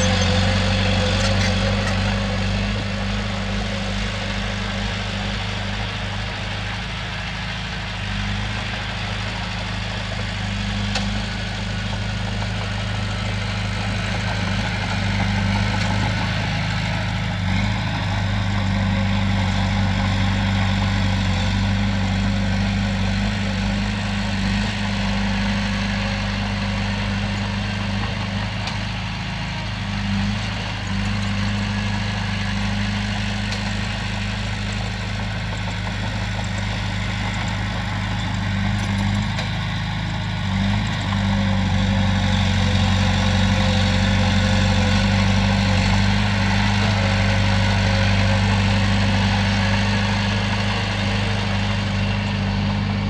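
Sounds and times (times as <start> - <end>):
bulldozer diesel engine humming: 0.0 - 53.0.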